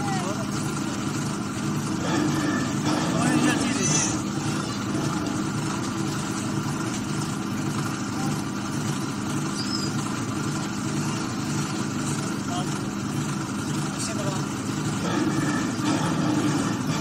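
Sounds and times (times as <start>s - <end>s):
potter's wheel motor hum: 0.0s - 17.0s.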